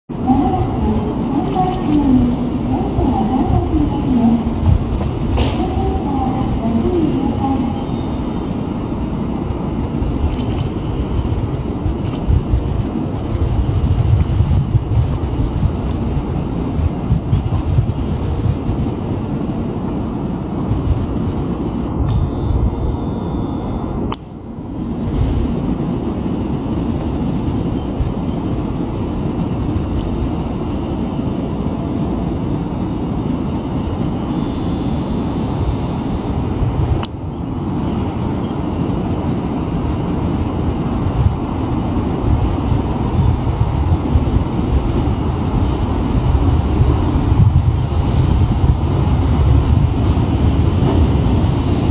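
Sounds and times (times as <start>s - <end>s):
electric train rumble: 0.0s - 51.9s.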